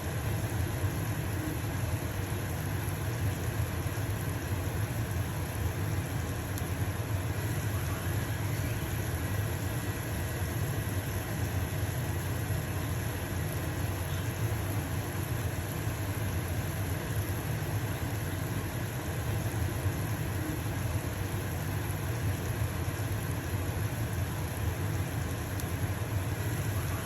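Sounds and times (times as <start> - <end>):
pancake sizzling in pan: 0.0 - 27.0
range hood fan humming: 0.0 - 27.0.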